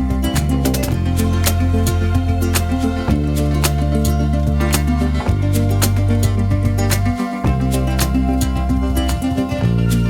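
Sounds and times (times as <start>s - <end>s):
background music with steady beat: 0.0s - 10.0s
plucked guitar: 0.0s - 10.0s.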